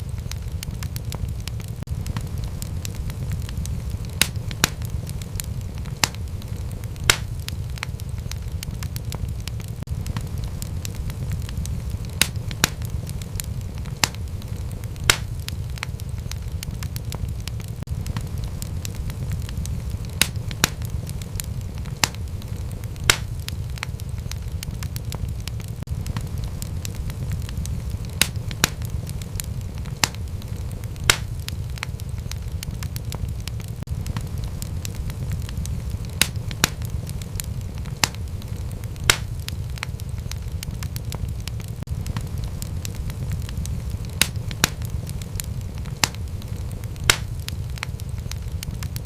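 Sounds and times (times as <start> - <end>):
low rumble of flames: 0.0 - 49.0
sharp pops of fire: 0.0 - 49.0
wood fire crackling: 0.0 - 49.0.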